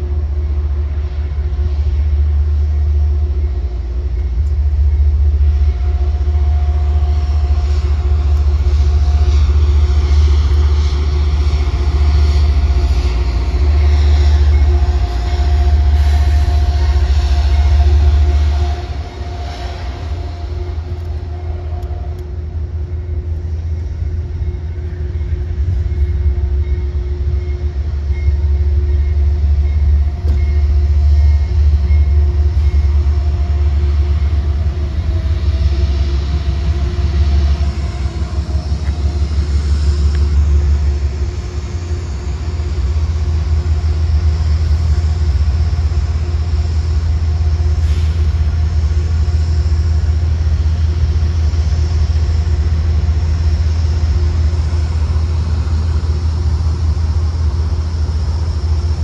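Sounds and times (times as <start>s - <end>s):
diesel locomotive humming: 0.0s - 59.0s.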